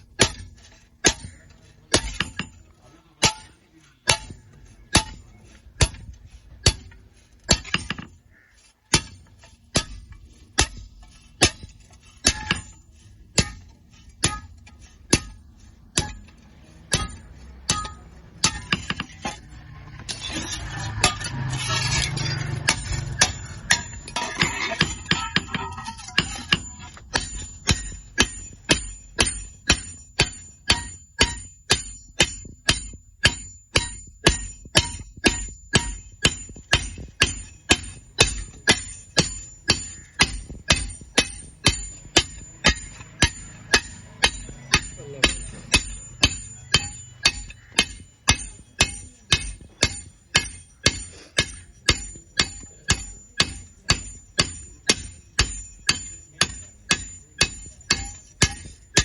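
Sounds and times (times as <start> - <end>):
hammer striking iron: 0.0 - 59.0.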